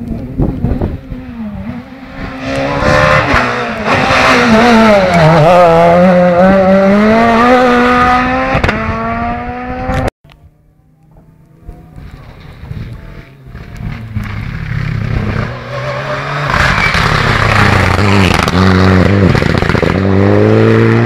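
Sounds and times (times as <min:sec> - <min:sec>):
rally car engine at high revs: 0:00.0 - 0:10.1, 0:11.6 - 0:21.0.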